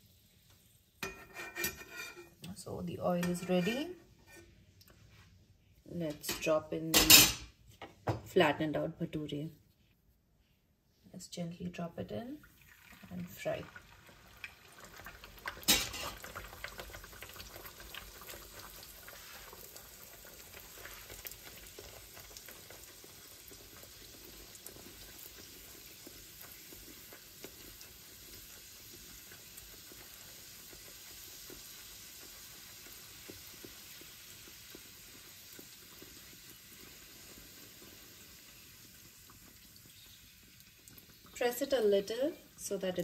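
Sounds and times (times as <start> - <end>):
dough deep-frying in oil: 0.0 - 7.6, 11.9 - 43.0.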